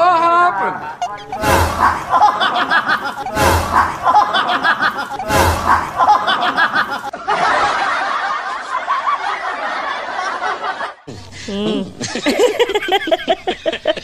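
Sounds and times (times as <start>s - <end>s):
looped laughter: 0.8s - 14.0s.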